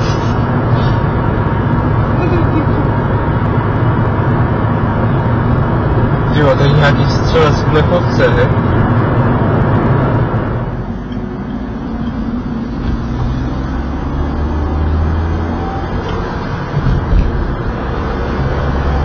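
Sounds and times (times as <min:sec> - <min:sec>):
car engine and tyres droning: 0:00.0 - 0:19.0.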